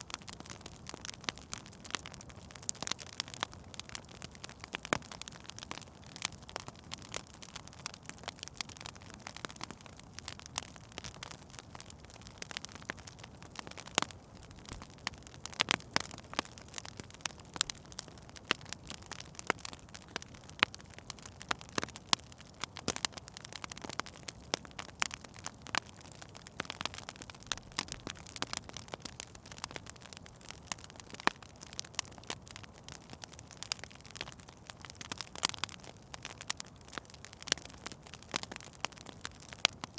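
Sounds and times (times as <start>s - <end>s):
fire crackles and pops: 0.0s - 39.9s.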